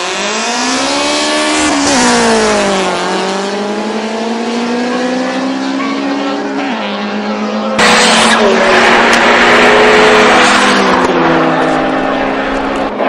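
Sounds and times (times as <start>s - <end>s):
cars accelerating hard: 0.0s - 13.0s.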